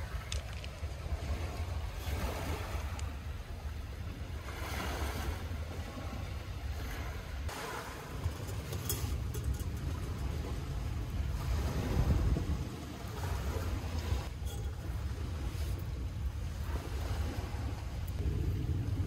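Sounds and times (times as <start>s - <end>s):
waves washing onto pebbly shore: 0.0s - 18.2s
wind buffeting microphone: 0.0s - 19.0s.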